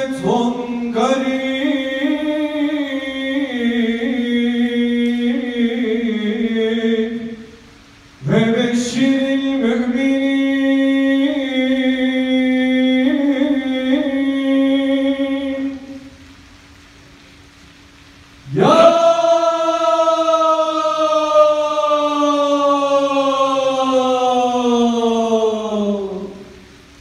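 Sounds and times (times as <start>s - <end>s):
man chanting long held notes: 0.0s - 7.6s, 8.2s - 16.1s, 18.4s - 26.7s.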